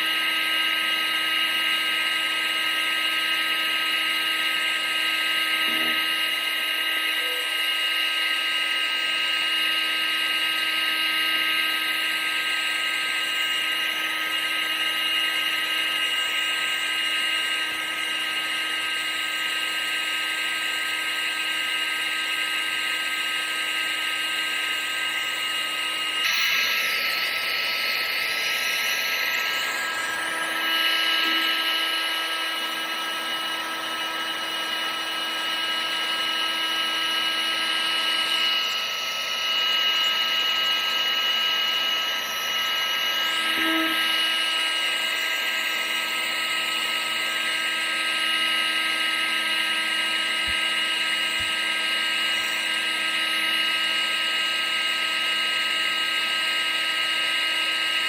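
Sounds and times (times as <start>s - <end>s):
electric motor and fan running: 0.0s - 58.0s.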